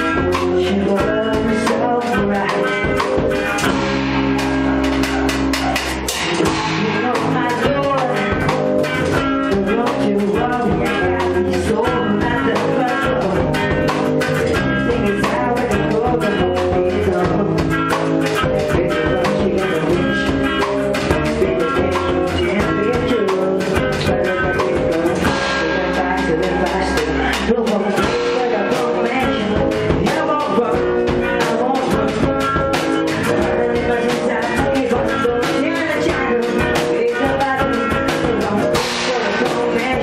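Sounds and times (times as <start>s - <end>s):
drum kit: 0.0s - 40.0s
electric guitars: 0.0s - 40.0s
person singing into microphone: 0.0s - 40.0s.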